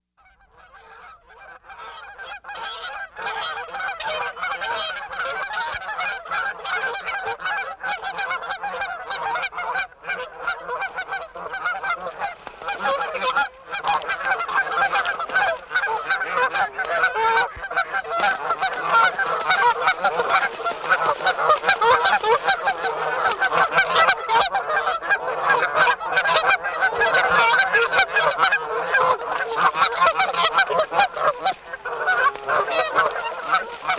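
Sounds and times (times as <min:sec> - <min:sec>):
geese honking: 0:00.3 - 0:33.9.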